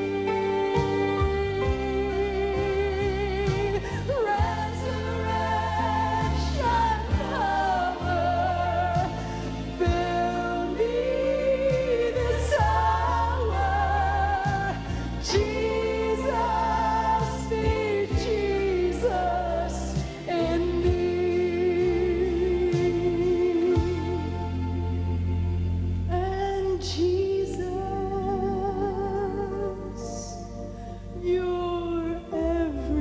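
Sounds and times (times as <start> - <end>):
instrumental accompaniment with bass: 0.0 - 33.0
woman singing gospel ballad: 0.0 - 33.0.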